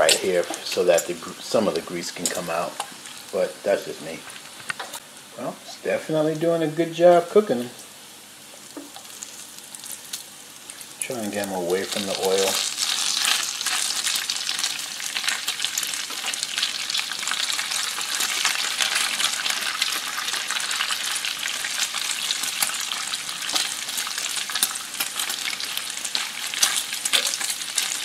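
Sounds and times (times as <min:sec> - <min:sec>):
bacon sizzling on a griddle: 0:00.0 - 0:28.0.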